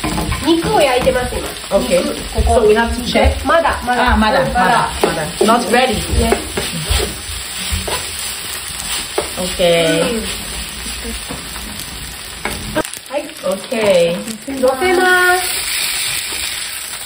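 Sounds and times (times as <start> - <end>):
spatulas scraping griddle: 0.0 - 12.9, 13.5 - 17.0
noodles sizzling on griddle: 0.0 - 17.0.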